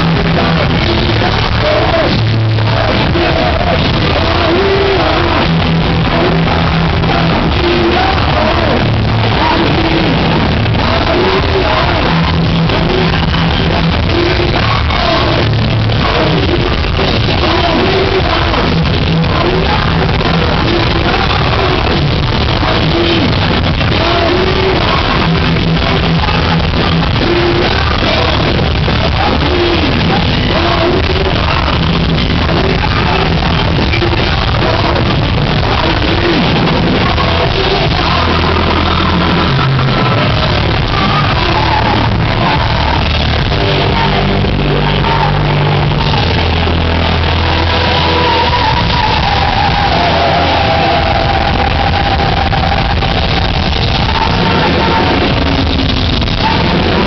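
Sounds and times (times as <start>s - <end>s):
live heavy metal band: 0.0s - 57.0s
person singing: 0.0s - 57.0s.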